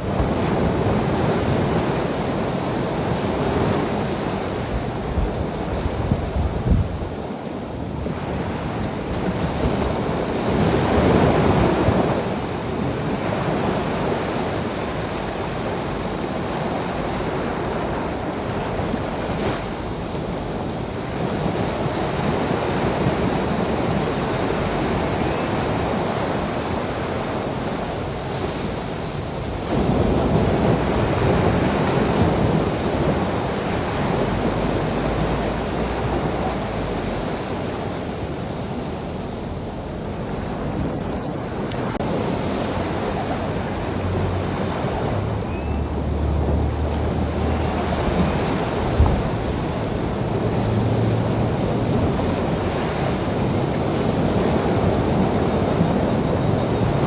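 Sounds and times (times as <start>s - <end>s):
waves washing in: 0.0s - 57.0s.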